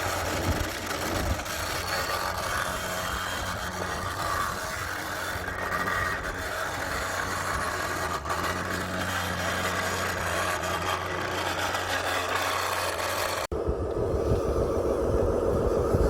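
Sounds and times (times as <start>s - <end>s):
toy trucks humming: 0.0s - 16.0s.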